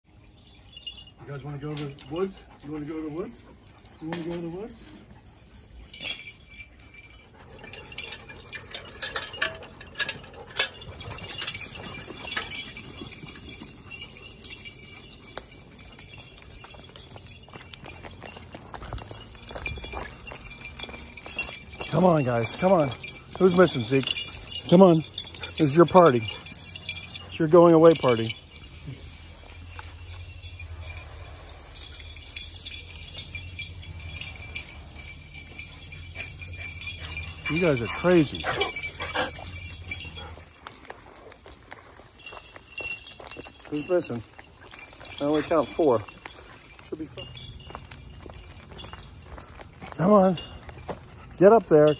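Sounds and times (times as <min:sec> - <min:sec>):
sharp clicks and jingles: 0:00.0 - 0:51.9
insects droning: 0:00.1 - 0:51.9
rustles: 0:00.3 - 0:51.9
footsteps on gravel: 0:09.6 - 0:51.9.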